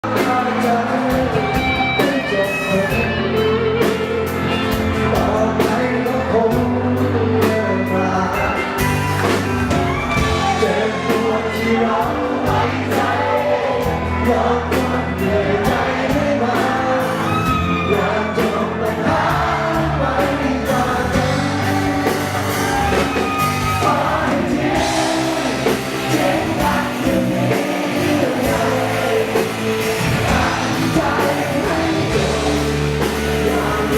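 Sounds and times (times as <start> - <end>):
drums steady beat: 0.0 - 6.8, 8.4 - 33.9
person singing: 0.0 - 9.1, 9.9 - 33.9
overdriven electric guitar: 0.0 - 33.9.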